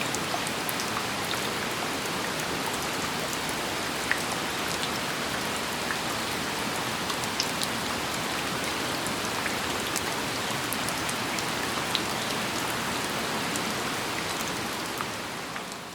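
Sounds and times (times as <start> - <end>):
steady rain: 0.0 - 15.9.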